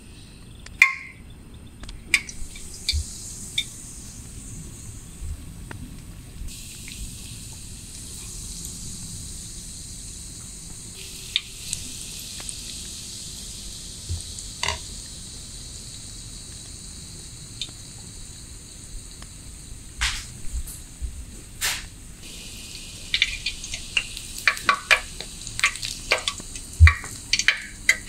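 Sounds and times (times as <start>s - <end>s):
oil sizzling while deep-frying: 2.1s - 28.0s.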